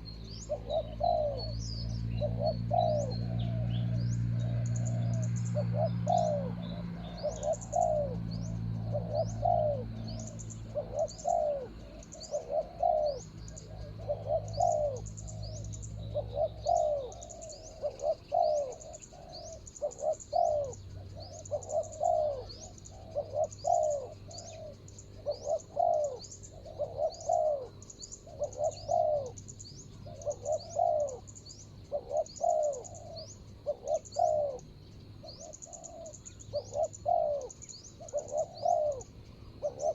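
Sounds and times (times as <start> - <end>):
doves cooing: 0.0 - 39.9
low steady hum: 0.0 - 39.9
small bird chirping: 0.0 - 39.9.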